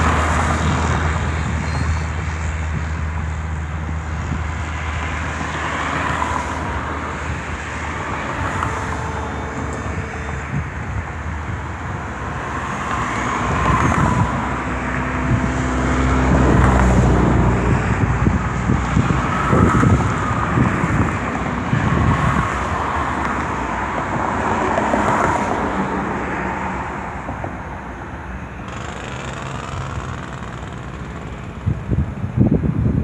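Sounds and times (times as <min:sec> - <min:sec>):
aircraft engine rush with whine: 0:00.0 - 0:33.0
wind gusting on microphone: 0:00.0 - 0:33.0.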